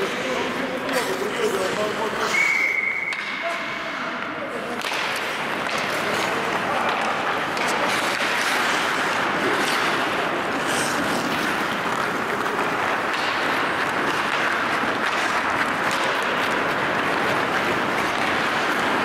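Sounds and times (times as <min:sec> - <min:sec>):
skate blades scraping ice: 0:00.0 - 0:02.7, 0:04.5 - 0:19.0.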